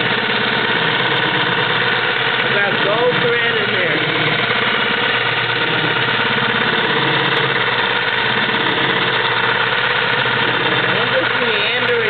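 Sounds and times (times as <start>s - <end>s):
quilting machine stitching: 0.0s - 12.0s.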